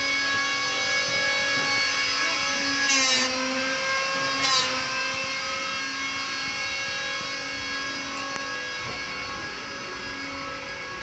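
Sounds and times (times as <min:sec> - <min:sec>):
rasping bursts: 0:00.0 - 0:09.3
steady machine whine: 0:00.0 - 0:11.0.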